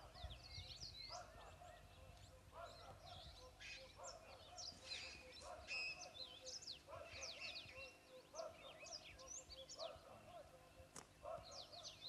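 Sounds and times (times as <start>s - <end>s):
low repeated bird call: 0.0s - 12.0s.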